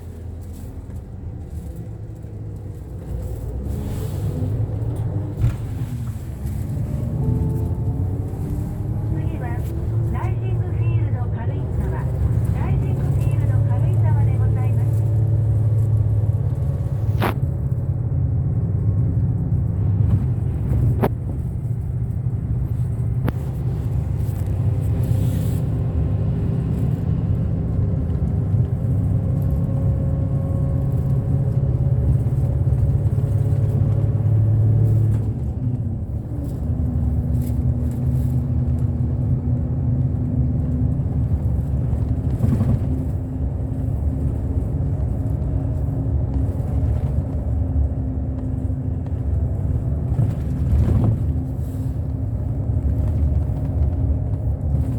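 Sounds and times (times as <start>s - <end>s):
bus engine rumble: 0.0s - 54.9s
road noise: 0.0s - 54.9s.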